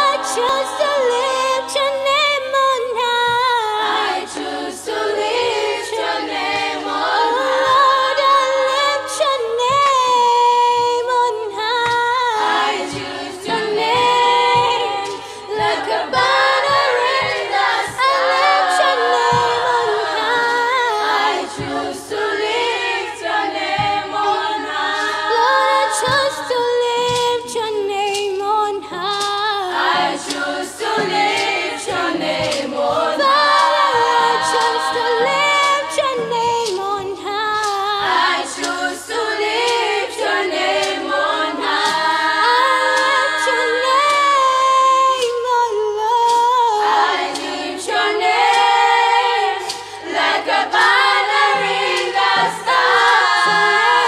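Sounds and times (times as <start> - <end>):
women singing a cappella: 0.0 - 54.0.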